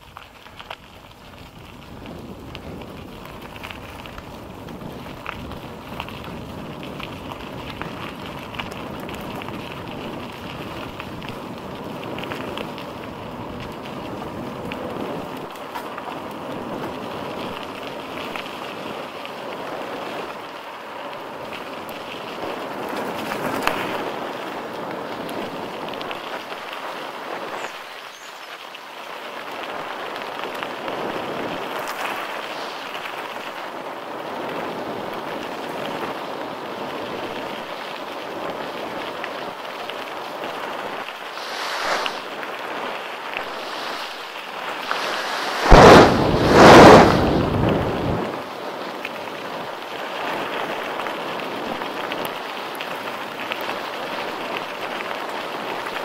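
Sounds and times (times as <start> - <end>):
bike rattles and clicks: 0.0 - 41.3, 48.6 - 56.0
bike tyre rolling on trail: 0.0 - 56.0.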